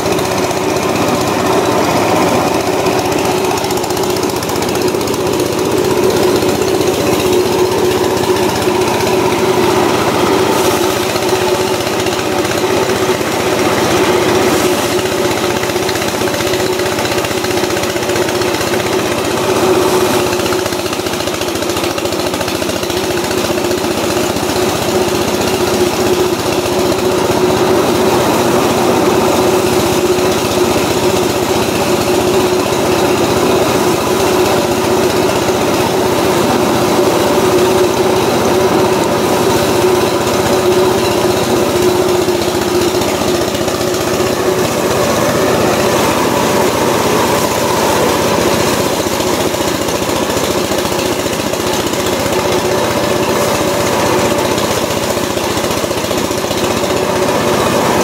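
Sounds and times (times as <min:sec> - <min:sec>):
rice threshing machine humming: 0:00.0 - 0:58.0.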